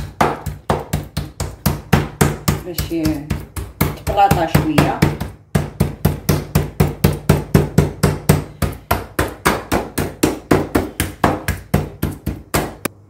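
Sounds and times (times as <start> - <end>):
mallet pounding meat: 0.0 - 12.9.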